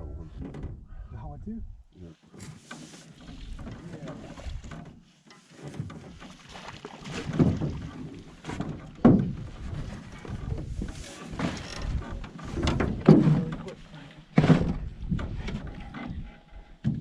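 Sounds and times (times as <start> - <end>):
water slapping against hull: 2.3 - 17.0
knocks in boat: 3.3 - 17.0.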